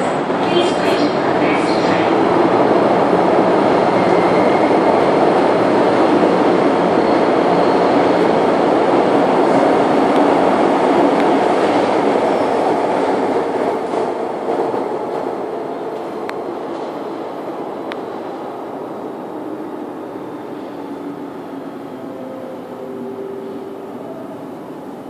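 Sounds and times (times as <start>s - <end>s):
train rumbling through station: 0.0s - 25.0s.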